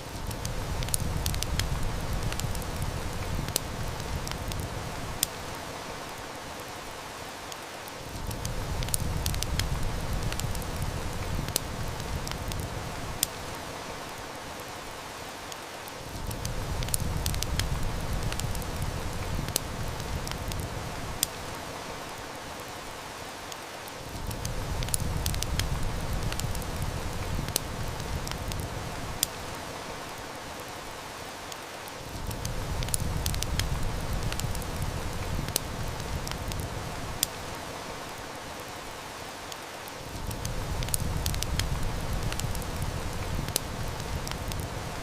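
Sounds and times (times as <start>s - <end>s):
heavy rain: 0.0s - 45.0s
wood fire crackling: 0.0s - 45.0s.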